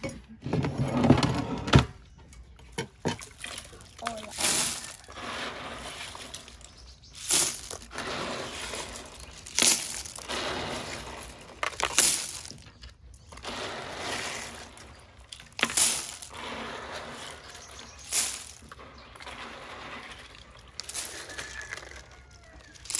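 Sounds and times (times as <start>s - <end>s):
shells grinding and clattering: 2.3s - 22.9s
water sloshing: 2.8s - 22.9s.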